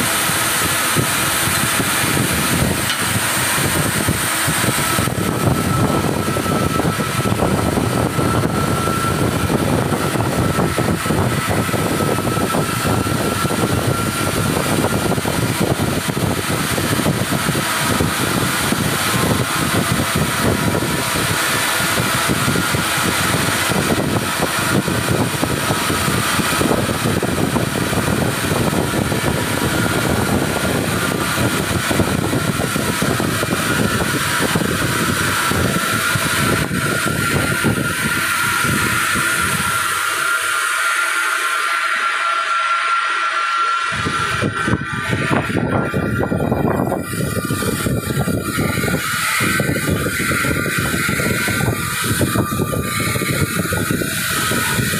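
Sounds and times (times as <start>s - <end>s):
cutting torch hissing: 0.0s - 54.9s
faint thin high whine: 0.0s - 54.9s.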